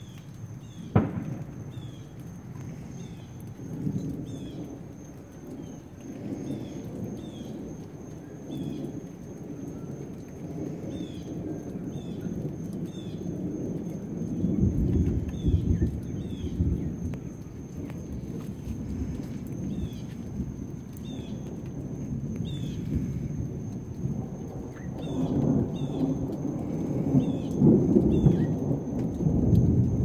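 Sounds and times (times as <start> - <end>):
thunder rumbling: 0.0 - 30.0.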